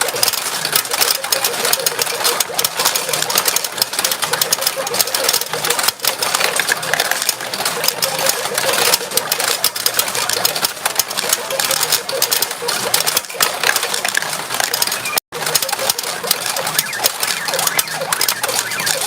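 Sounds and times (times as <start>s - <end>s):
pachinko balls clattering: 0.0s - 19.0s.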